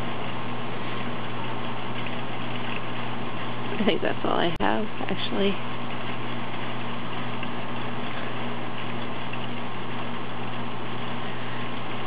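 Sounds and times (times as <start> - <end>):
low hum: 0.0 - 12.0
steady rain hissing: 0.0 - 12.0.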